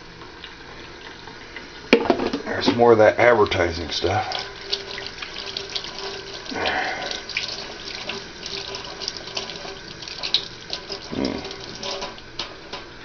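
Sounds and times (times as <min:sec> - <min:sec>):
faucet running into metal sink: 0:00.9 - 0:12.9.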